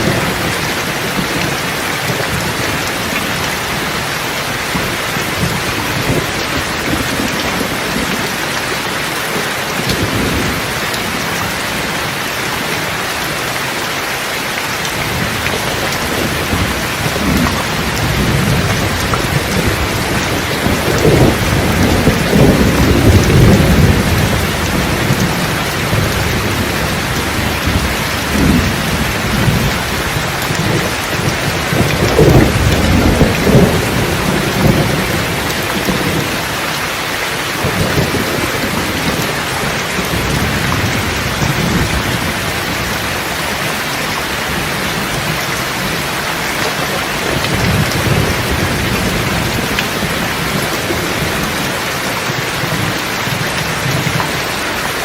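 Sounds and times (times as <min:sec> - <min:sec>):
rolling thunder: 0:00.0 - 0:12.2, 0:14.9 - 0:54.6
rain falling: 0:00.0 - 0:55.0.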